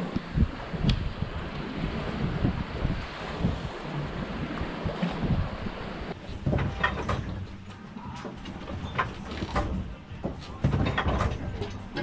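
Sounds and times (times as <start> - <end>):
knocks and rattles on boat: 0.0 - 12.0
wind and sea roar: 0.0 - 12.0.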